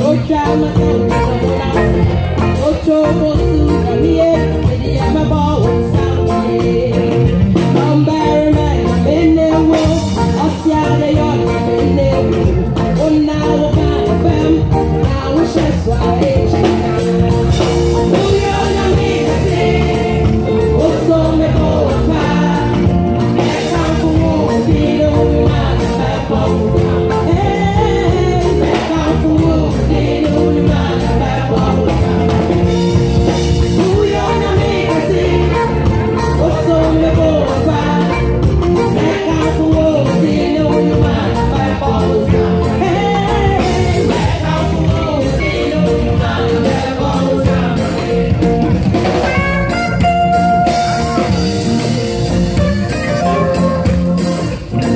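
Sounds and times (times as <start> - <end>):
gospel choir singing: 0.0 - 49.3, 50.6 - 54.9
live band with steady beat: 0.0 - 54.9.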